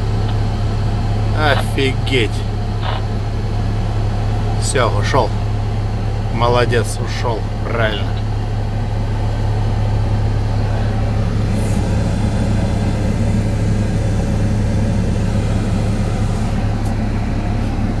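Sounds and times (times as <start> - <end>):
idling vehicle engine hum: 0.0 - 18.0.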